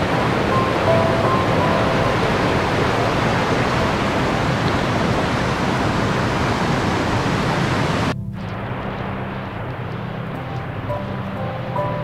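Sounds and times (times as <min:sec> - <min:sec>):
rushing whitewater: 0:00.0 - 0:12.0.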